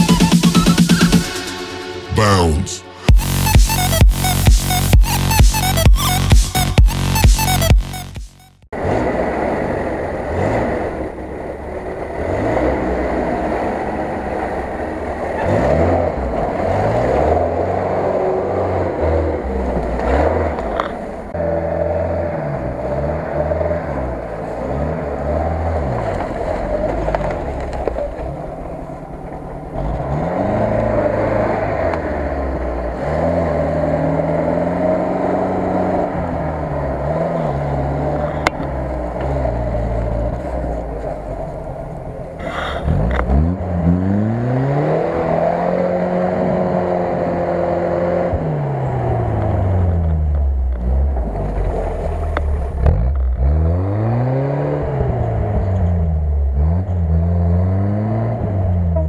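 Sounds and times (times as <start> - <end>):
off-road vehicle engines revving: 3.2 - 59.0.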